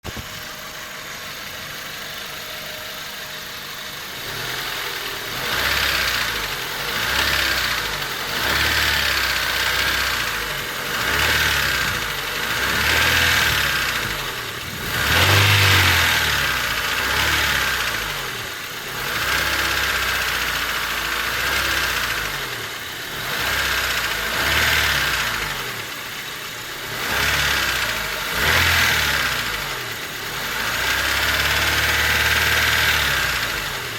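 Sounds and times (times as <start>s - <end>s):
car engine running: 0.0s - 33.9s
engine ticking: 0.0s - 33.9s.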